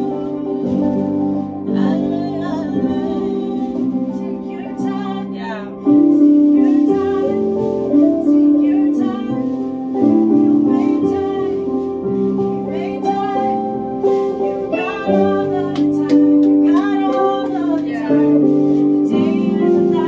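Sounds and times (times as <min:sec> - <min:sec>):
live band worship music: 0:00.0 - 0:20.0
person singing: 0:00.0 - 0:20.0.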